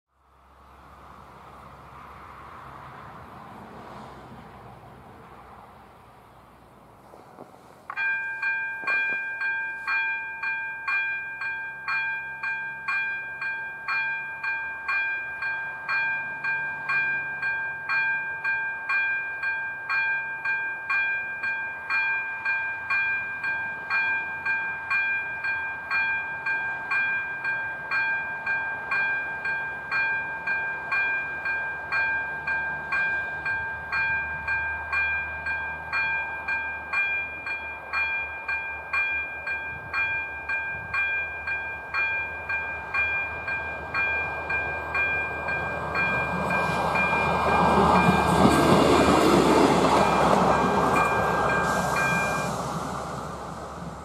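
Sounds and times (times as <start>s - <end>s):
level crossing warning bell: 7.9s - 52.7s.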